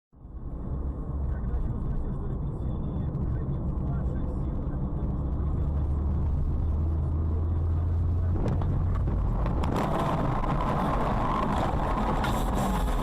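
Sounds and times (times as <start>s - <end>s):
car engine and road noise: 0.1s - 13.0s.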